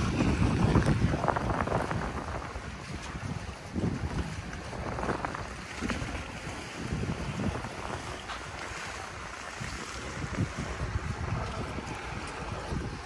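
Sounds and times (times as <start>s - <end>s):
small waves washing on shore: 0.0s - 13.0s
wind buffeting microphone: 0.0s - 13.0s.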